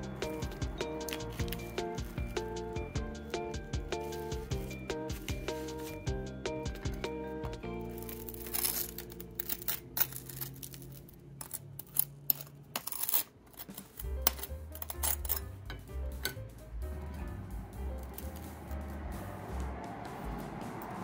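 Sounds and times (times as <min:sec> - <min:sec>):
background music: 0:00.0 - 0:10.7, 0:13.7 - 0:21.0.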